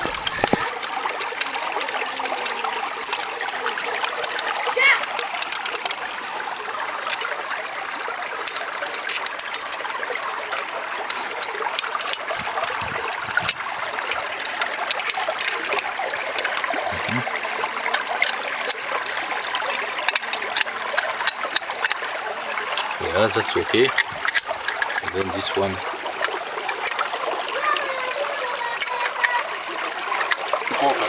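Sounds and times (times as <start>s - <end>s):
water rushing in channel: 0.0s - 31.0s.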